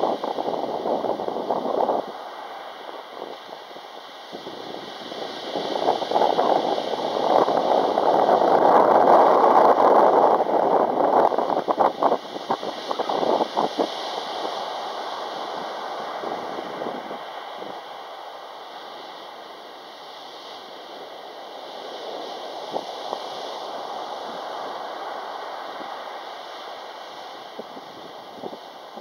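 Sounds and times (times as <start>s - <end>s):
surf hissing over stones: 0.0s - 29.0s.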